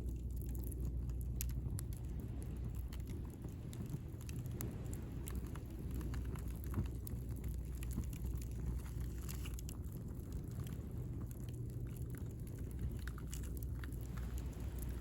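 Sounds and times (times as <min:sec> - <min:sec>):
bonfire crackling: 0:00.0 - 0:15.0
fire pops and ticks: 0:00.0 - 0:15.0
low fire rumble: 0:00.0 - 0:15.0.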